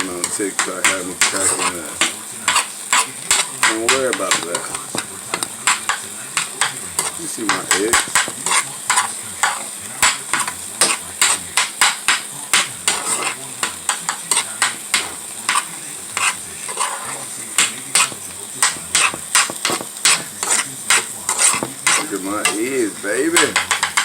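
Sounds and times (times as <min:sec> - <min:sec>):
eggs sizzling: 0:00.0 - 0:24.0
spoon scraping frying pan: 0:00.0 - 0:24.0.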